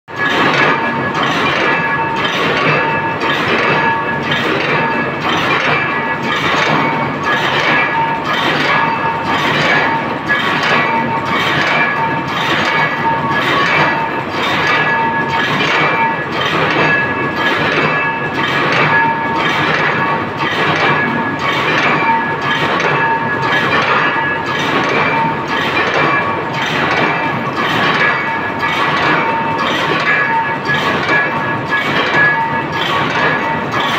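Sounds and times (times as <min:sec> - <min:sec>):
ringing metal tone: 0:00.1 - 0:33.9
wire mesh loom clashing: 0:00.1 - 0:33.9.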